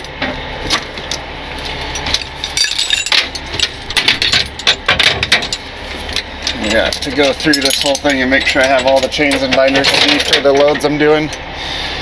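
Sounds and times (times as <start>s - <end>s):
low steady hum: 0.0s - 12.0s
chains clinking and rattling: 1.1s - 11.4s.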